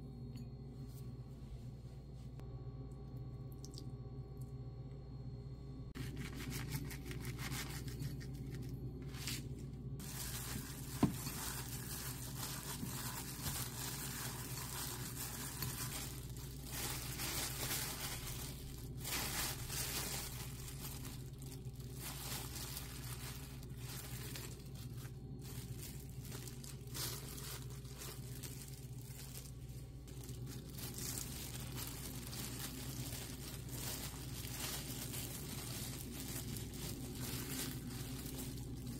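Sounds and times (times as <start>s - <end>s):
plastic wrap crinkling: 5.9s - 38.9s.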